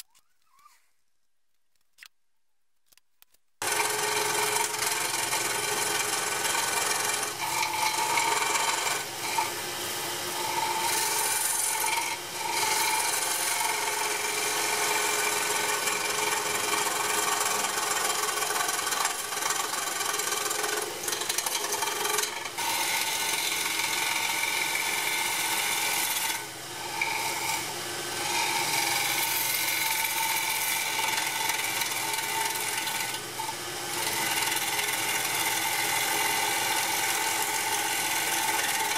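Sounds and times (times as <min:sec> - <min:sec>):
lathe motor hum: 0:03.6 - 0:38.9
lathe tool scraping wood: 0:03.6 - 0:38.9.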